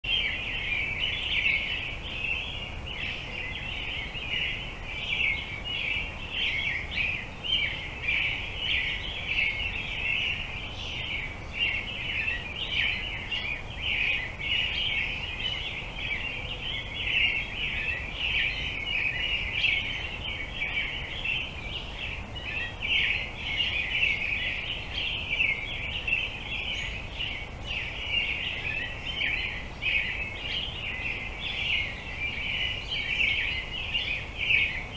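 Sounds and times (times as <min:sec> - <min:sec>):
many birds chattering: 0:00.1 - 0:34.9.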